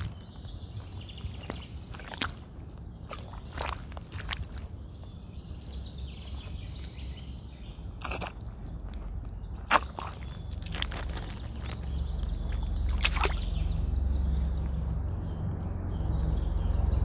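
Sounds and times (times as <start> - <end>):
footsteps squelching in mud puddle: 0.0 - 14.6.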